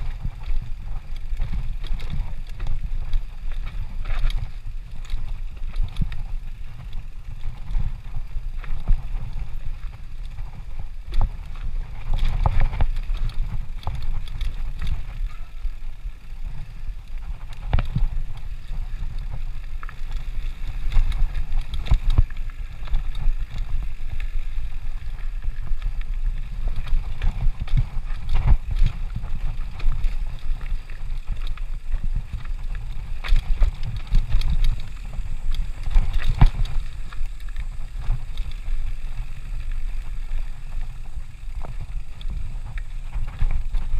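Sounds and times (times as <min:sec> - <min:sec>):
bike wheels knocking on rocks: 0:00.0 - 0:43.9
wind rumble on microphone: 0:00.0 - 0:43.9.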